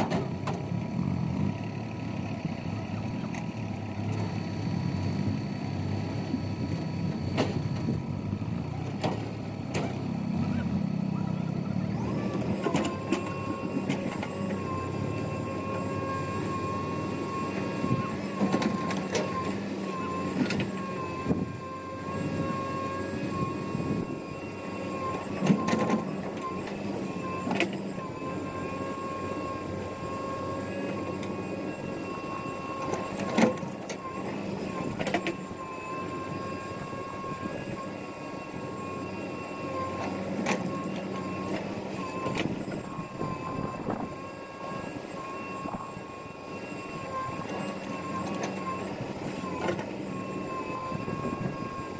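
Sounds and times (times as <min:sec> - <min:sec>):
diesel engine with high whine: 0:00.0 - 0:51.9.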